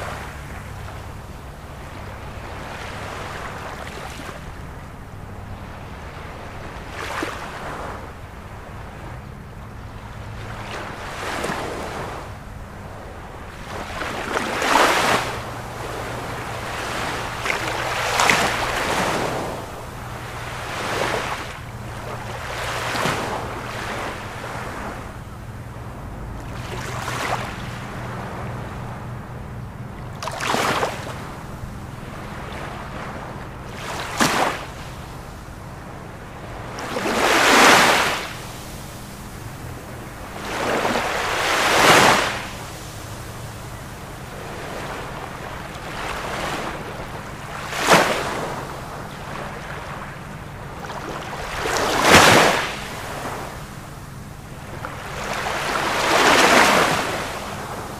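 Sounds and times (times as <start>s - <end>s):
waves crashing on shore: 0.0s - 9.4s, 10.0s - 57.9s
steady surf wash: 0.0s - 57.9s.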